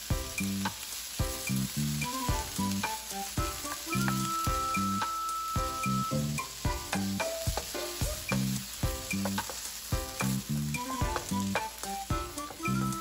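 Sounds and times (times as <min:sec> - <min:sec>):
vegetables sizzling in butter: 0:00.0 - 0:13.0.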